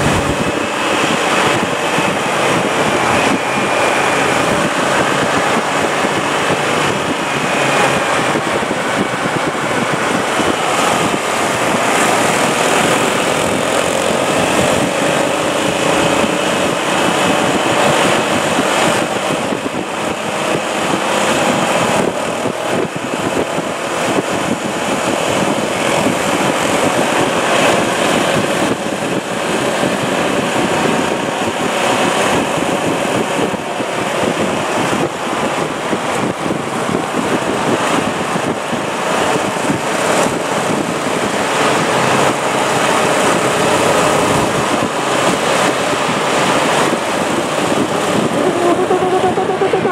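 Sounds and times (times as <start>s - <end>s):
motorcycle engines running: 0.0s - 49.9s.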